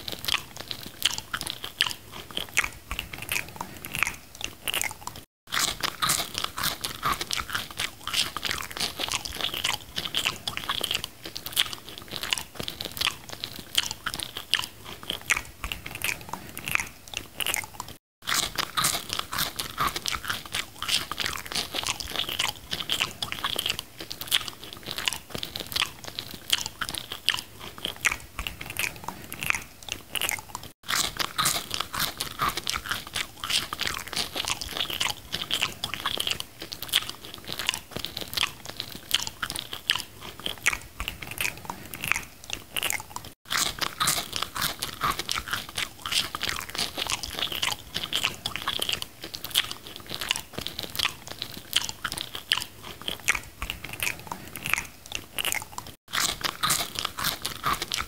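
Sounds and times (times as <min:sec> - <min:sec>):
wet chewing and biting: 0:00.0 - 0:58.0.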